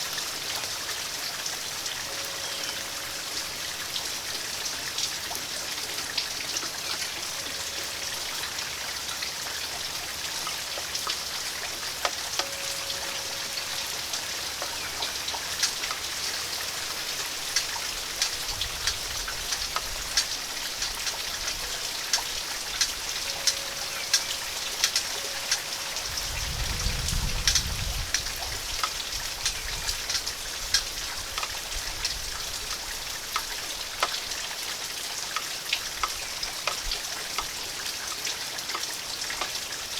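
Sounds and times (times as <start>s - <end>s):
rain drops tapping hard surfaces: 0.0s - 39.9s.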